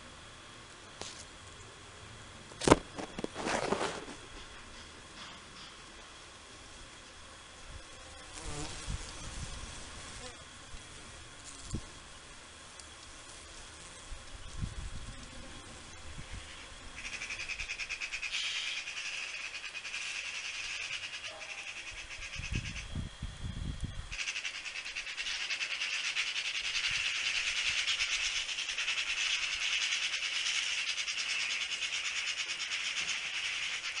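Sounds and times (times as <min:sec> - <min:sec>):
high-pitched insect buzz: 0:05.6 - 0:34.0.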